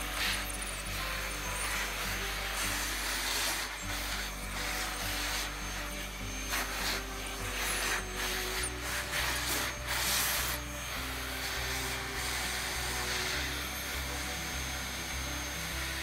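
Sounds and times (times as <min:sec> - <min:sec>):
vacuum cleaner sucking: 0:00.0 - 0:16.0.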